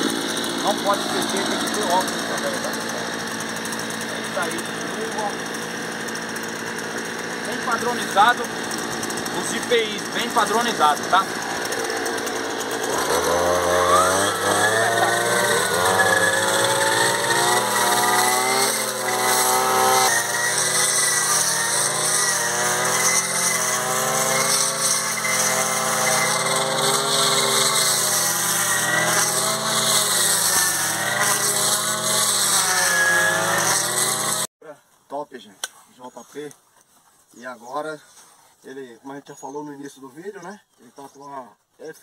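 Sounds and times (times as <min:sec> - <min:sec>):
blade cutting through grass: 0:00.0 - 0:34.5
brushcutter engines revving: 0:00.0 - 0:34.5.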